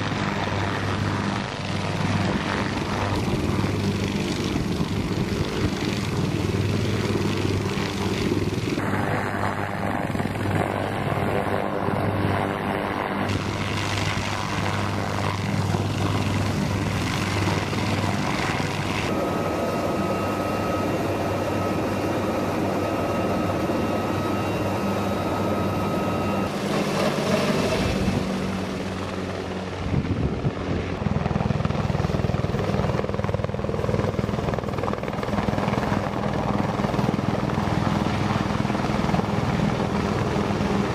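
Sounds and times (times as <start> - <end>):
turbine whine: 0.0 - 40.9
helicopter rotor thrum: 0.1 - 40.9.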